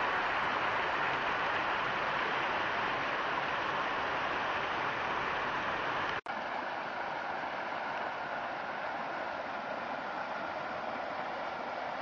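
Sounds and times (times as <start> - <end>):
creek rushing over boulders: 0.0 - 12.0.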